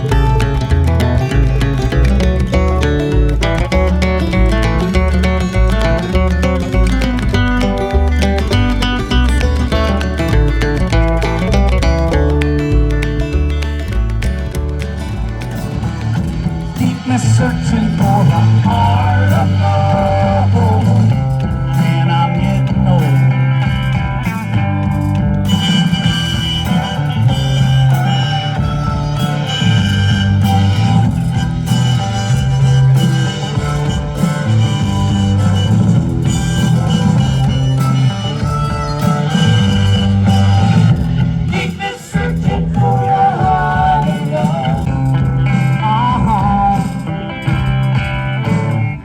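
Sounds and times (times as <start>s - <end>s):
rock music with guitar and bass: 0.0s - 49.0s.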